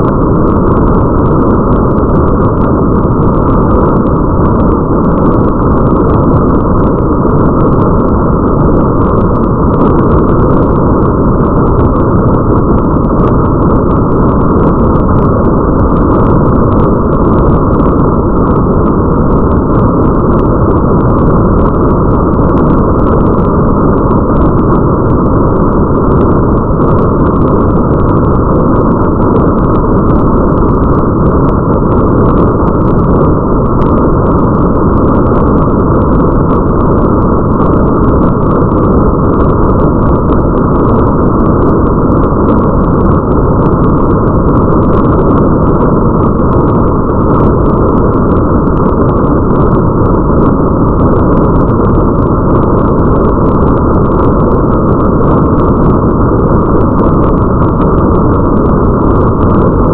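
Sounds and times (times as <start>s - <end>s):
patter of raindrops: 0.0s - 49.1s
muffled rain rumble: 0.0s - 59.9s.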